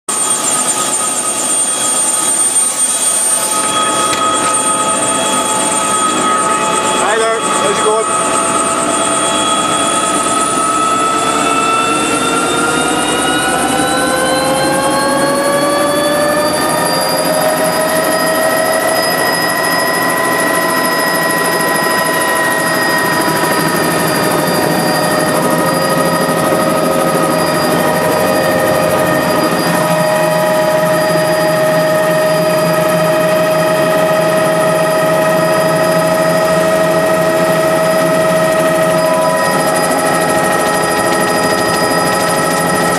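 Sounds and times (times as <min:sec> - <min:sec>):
helicopter engine and rotor drone: 0:00.1 - 0:42.9.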